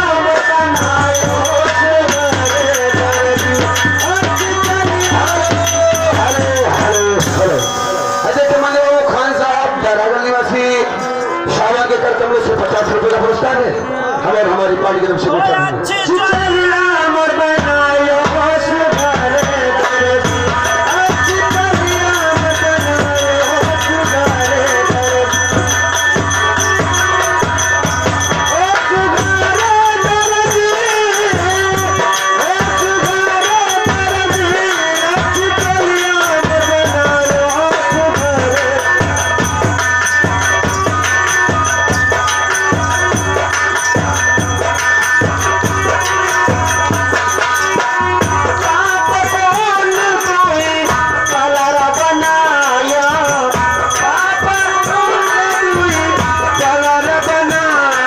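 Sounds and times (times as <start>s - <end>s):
steady drum beat: 0.0s - 9.9s, 15.3s - 58.0s
rattling percussion: 0.0s - 13.9s, 15.8s - 58.0s
folk dance music: 0.0s - 58.0s.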